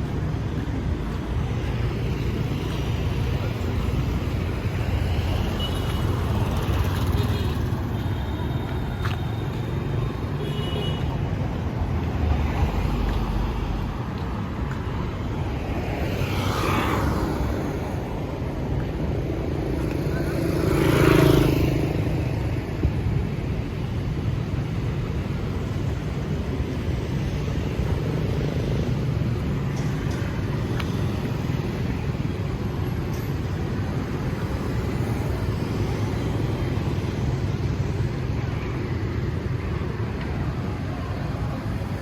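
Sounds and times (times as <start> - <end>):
road traffic with vehicles passing: 0.0 - 42.0.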